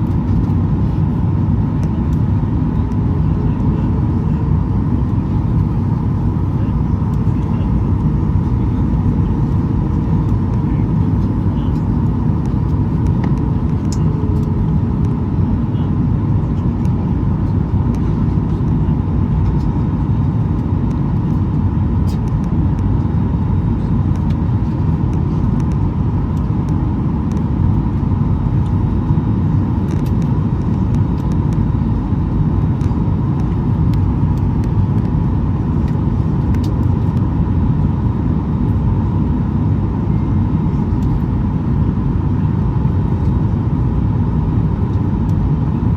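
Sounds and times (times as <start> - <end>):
faint steady hum: 0.0 - 45.9
jet engines low rumble: 0.0 - 45.9.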